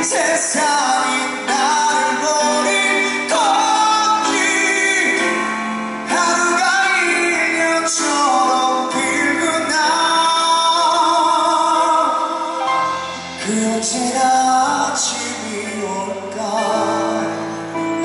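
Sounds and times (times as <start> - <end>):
instrumental accompaniment: 0.0 - 18.0
man singing ballad with vibrato: 0.0 - 18.0.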